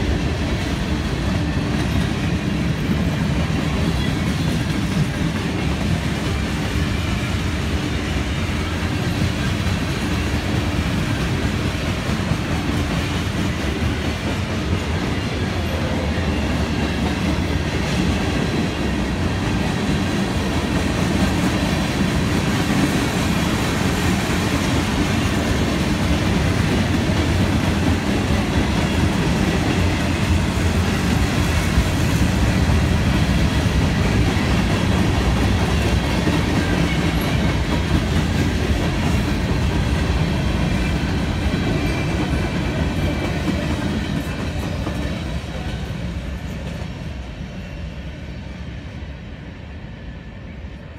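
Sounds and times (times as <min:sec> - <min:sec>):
freight train rolling on rails: 0:00.0 - 0:50.9.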